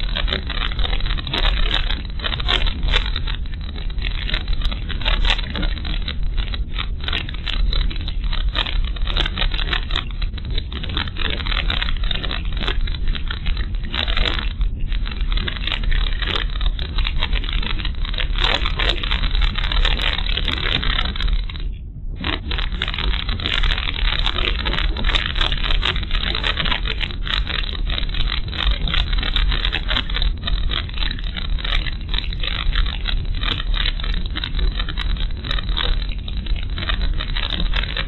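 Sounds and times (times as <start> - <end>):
crackling and rattling: 0.0 - 38.0.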